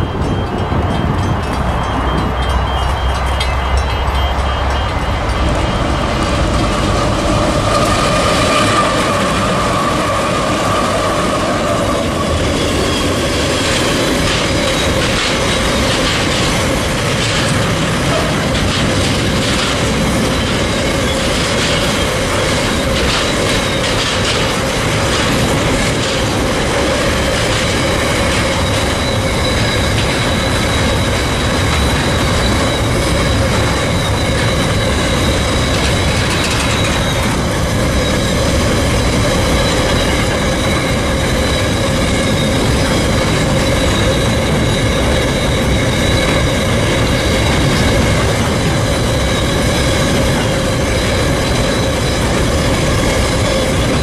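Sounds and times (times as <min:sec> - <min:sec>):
high wheel squeal: 0:00.0 - 0:54.0
train wagons rumbling past: 0:00.0 - 0:54.0
wheel clacks over rail joints: 0:00.0 - 0:54.0.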